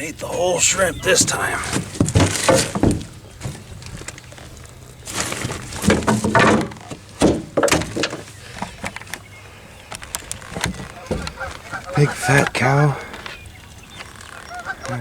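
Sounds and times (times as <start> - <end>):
knocks and thumps on boat: 0.0 - 9.4, 10.0 - 13.2.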